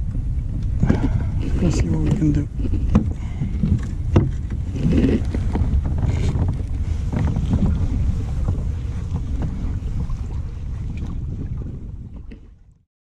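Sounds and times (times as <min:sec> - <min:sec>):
water lapping against hull: 0:00.0 - 0:12.8
wind buffeting microphone: 0:00.0 - 0:12.8.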